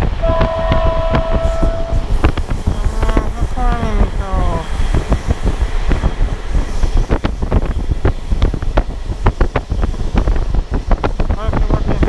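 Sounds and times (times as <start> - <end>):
train rumbling: 0.0 - 12.0
wind buffeting microphone: 0.0 - 12.0.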